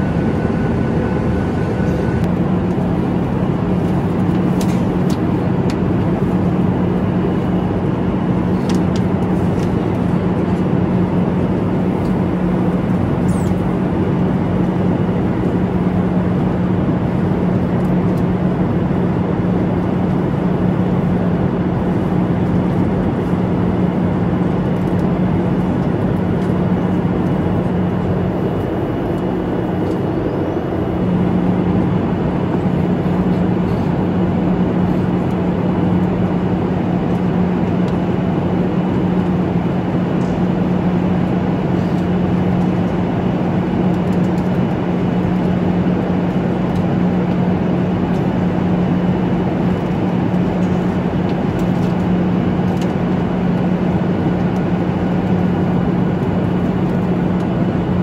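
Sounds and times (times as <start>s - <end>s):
airliner cabin air rush: 0.0s - 58.0s
constant low hum: 0.0s - 58.0s
jet engine noise: 0.0s - 58.0s.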